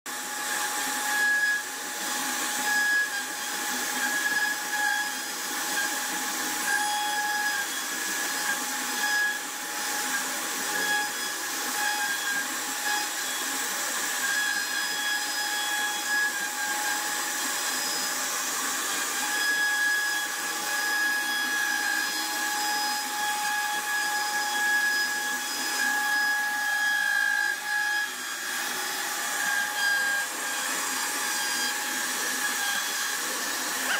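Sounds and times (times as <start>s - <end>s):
bit cutting into wood: 0.1s - 33.9s
router spindle high whine: 0.1s - 33.9s.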